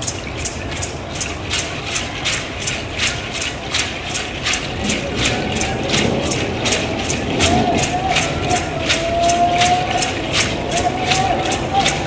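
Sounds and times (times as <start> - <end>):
rattles shaken in a beat: 0.0 - 12.0.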